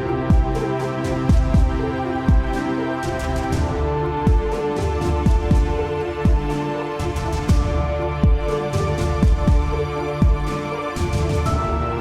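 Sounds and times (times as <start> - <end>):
deep kick-drum beat: 0.0 - 12.0.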